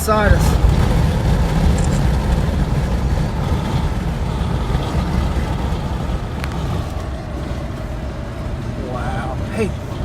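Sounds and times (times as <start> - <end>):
road and wind noise in vehicle: 0.0 - 10.0.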